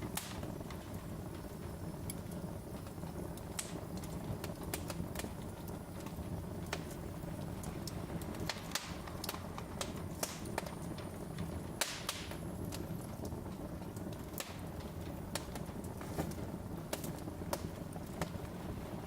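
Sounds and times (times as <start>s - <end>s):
hissing flare-ups: 0.0s - 19.0s
low rumble of flames: 0.0s - 19.0s
wood fire crackling and popping: 0.0s - 19.0s.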